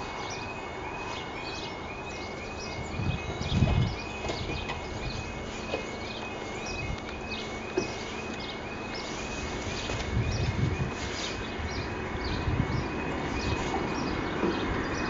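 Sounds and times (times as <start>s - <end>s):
birds chirping: 0.0s - 15.0s
two-tone warbling alarm: 0.0s - 15.0s.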